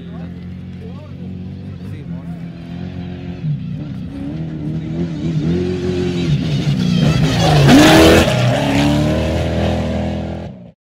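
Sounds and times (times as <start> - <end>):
race car engine passing: 0.3 - 10.7.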